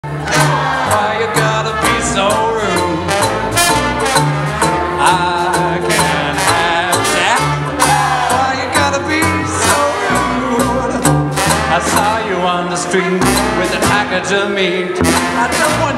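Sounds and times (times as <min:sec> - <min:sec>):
double bass: 0:00.0 - 0:15.9
strummed ukulele: 0:00.0 - 0:15.9
trombone: 0:00.0 - 0:15.9
trumpet: 0:00.0 - 0:15.9.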